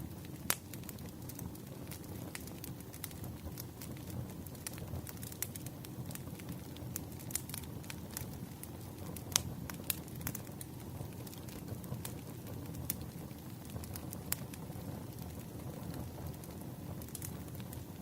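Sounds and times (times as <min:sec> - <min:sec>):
hiss of flames: 0:00.0 - 0:18.0
wood fire crackling and popping: 0:00.0 - 0:18.0.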